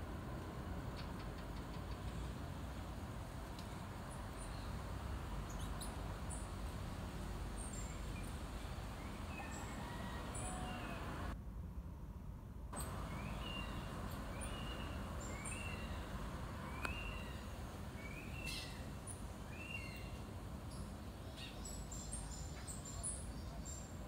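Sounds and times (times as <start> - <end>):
birds chirping: 0.8 - 11.4, 12.8 - 24.0.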